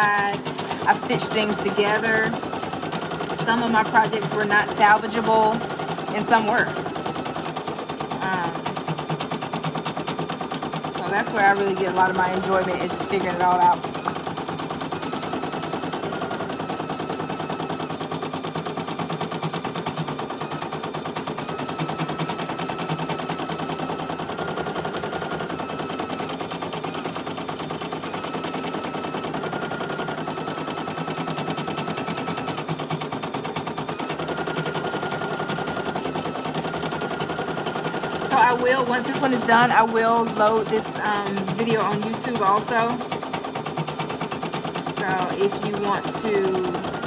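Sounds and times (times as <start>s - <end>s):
embroidery machine needle clatter: 0.0s - 47.0s
high machine hum: 0.0s - 47.0s.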